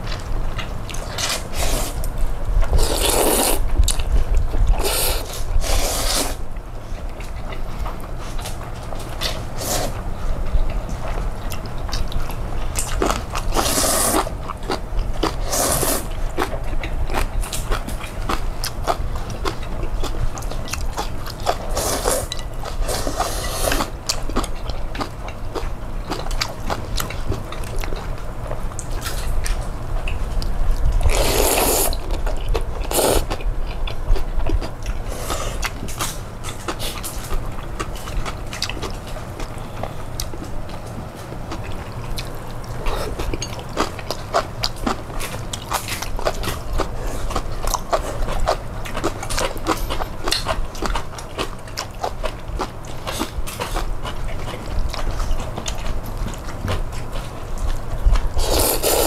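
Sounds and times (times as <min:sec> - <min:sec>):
chewing and biting noodles: 0:00.0 - 0:59.0.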